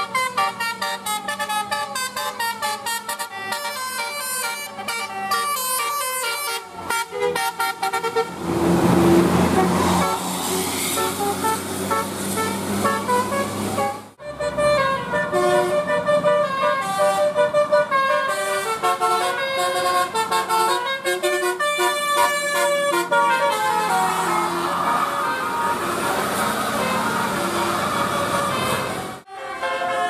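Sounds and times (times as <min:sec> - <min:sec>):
musical air horn tooting: 0:00.0 - 0:30.0.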